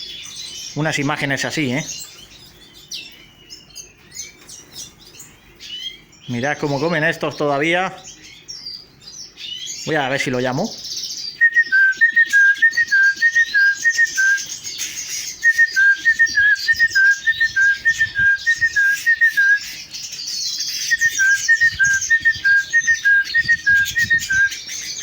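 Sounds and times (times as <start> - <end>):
finches twittering and chirping: 0.0 - 25.0.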